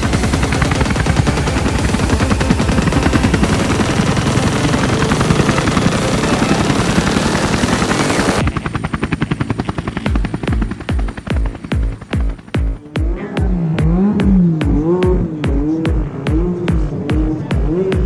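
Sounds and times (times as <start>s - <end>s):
electronic music with kick drum: 0.0s - 18.0s
pulsing aircraft rotor noise: 0.0s - 18.0s.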